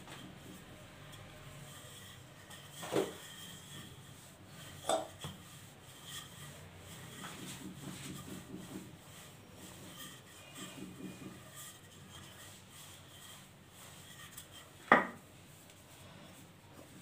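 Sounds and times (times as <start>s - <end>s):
hands rubbing dough: 0.0s - 17.0s.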